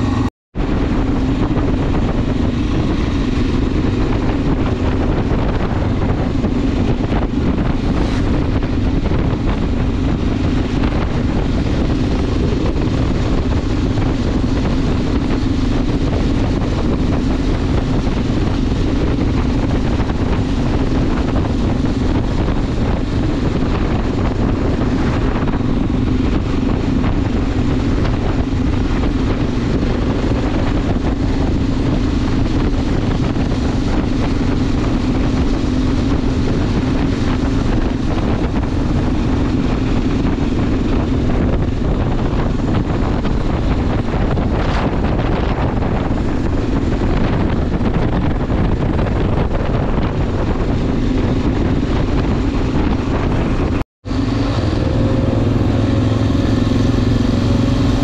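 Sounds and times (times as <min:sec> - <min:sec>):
motorcycle engine running: 0:00.0 - 0:58.0
terrain noise: 0:00.0 - 0:58.0
wind rushing: 0:00.0 - 0:58.0.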